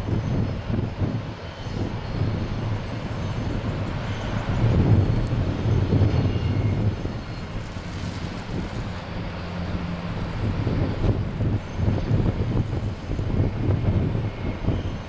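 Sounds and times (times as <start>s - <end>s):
jet engines low rumble: 0.0s - 15.0s.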